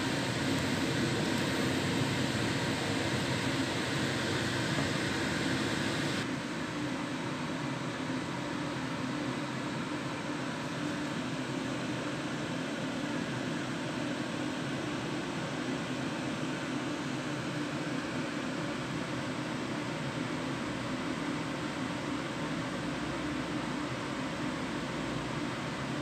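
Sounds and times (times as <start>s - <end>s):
fan-like hiss and hum: 0.0s - 26.0s.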